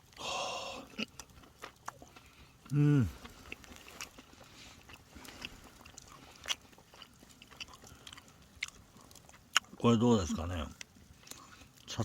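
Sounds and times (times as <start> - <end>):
person chewing: 0.0 - 11.9.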